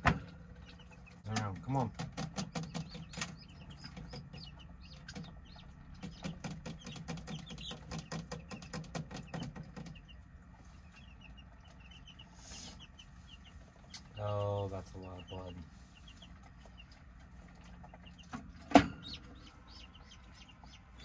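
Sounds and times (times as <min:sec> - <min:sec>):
chick peeping: 0:00.0 - 0:21.0.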